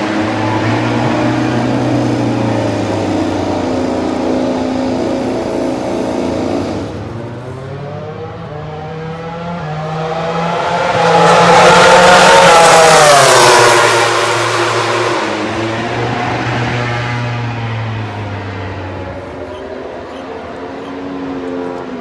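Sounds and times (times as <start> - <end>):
racing motorcycle engines: 0.0 - 22.0.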